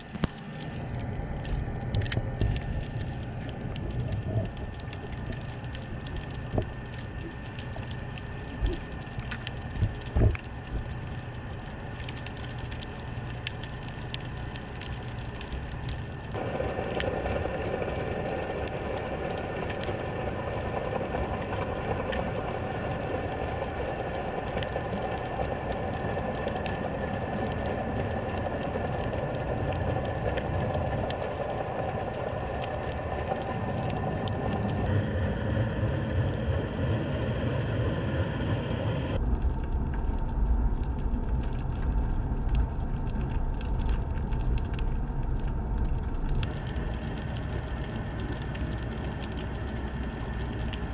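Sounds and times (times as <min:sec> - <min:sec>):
small crackling clicks: 0:00.0 - 0:35.1, 0:39.4 - 0:50.9
low underwater rumble: 0:00.0 - 0:50.9
underwater tonal drone: 0:00.0 - 0:50.9.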